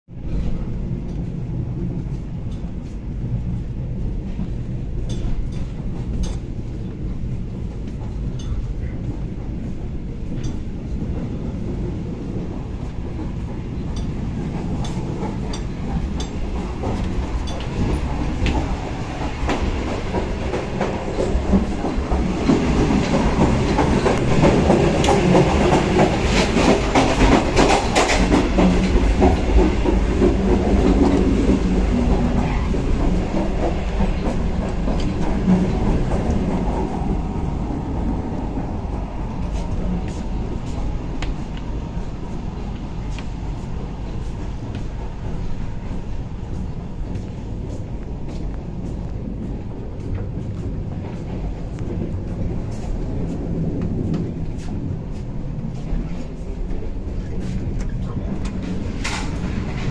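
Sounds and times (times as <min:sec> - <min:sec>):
train running rumble: 0:00.1 - 0:59.9
wheels and couplings clicking: 0:04.2 - 0:59.9.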